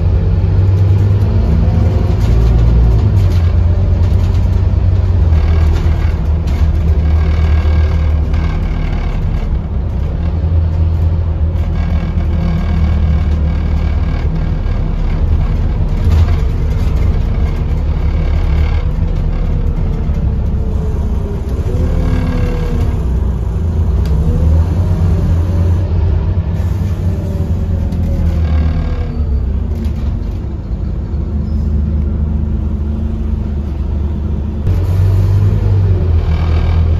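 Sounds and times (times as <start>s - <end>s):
bus engine hum: 0.0s - 36.9s.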